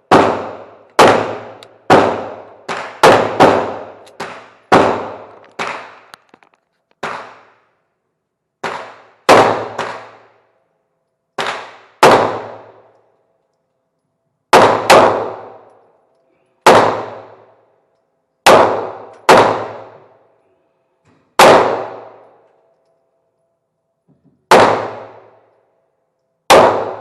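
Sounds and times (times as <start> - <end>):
gunshots echoing indoors: 0.0 - 6.1, 7.0 - 7.9, 8.5 - 27.0.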